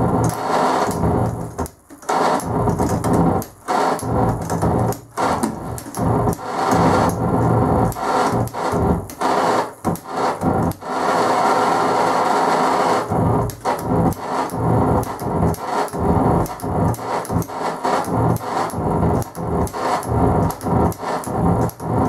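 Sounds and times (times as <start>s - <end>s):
vinyl record scratching: 0.0s - 22.0s.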